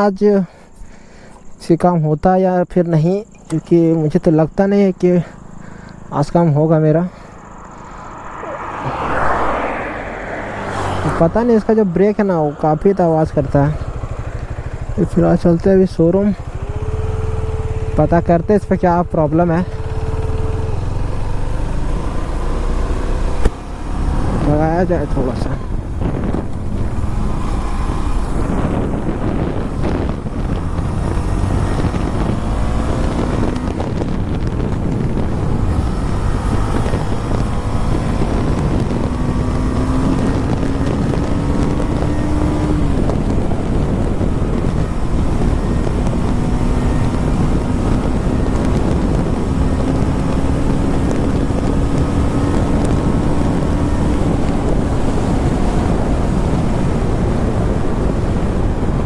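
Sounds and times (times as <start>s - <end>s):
wind rush on microphone: 4.5s - 59.0s
motorcycle engine pulling: 5.0s - 59.0s.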